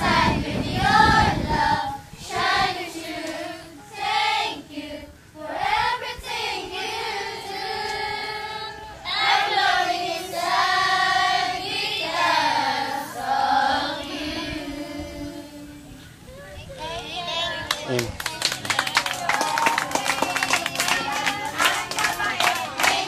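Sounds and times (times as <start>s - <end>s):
girls choir singing: 0.0s - 16.0s, 18.6s - 23.0s.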